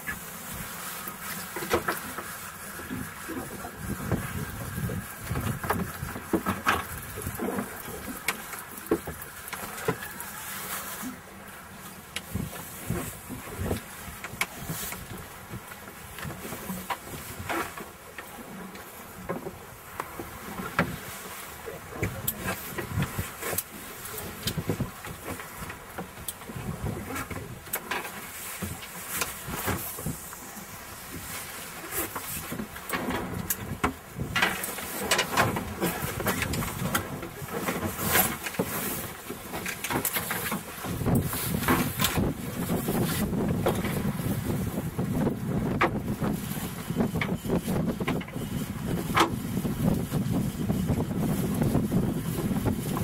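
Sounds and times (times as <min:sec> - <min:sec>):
boat hum: 0:00.0 - 0:53.0
wind noise: 0:01.8 - 0:08.3, 0:12.2 - 0:17.8, 0:20.1 - 0:27.8, 0:28.4 - 0:53.0.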